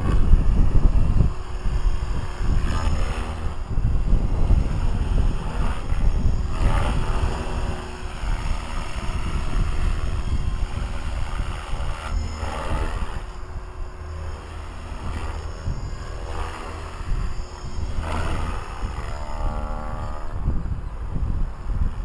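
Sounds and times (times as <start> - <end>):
electric motor whining: 0.0 - 22.0
helicopter rotor blades whooshing: 0.0 - 22.0
wind buffeting microphone: 0.0 - 22.0.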